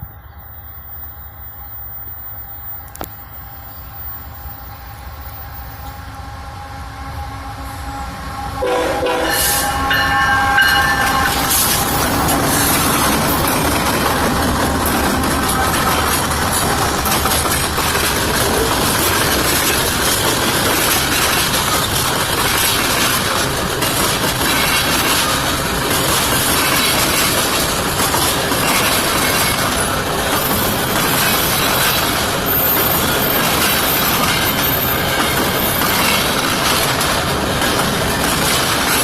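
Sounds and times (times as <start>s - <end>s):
freight train wheels rushing: 0.0s - 39.0s.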